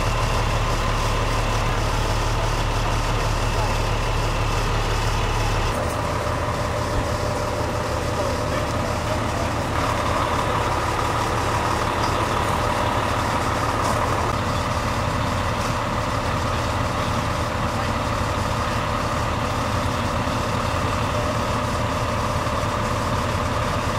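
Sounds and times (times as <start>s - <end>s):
vehicle engine idling: 0.0s - 23.9s.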